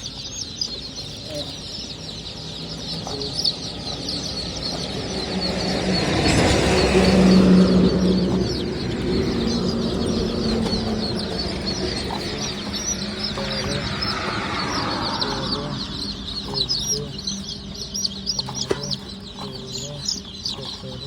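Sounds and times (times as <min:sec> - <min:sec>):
chicks cheeping: 0:00.0 - 0:21.0
vehicle passing by: 0:00.0 - 0:21.0.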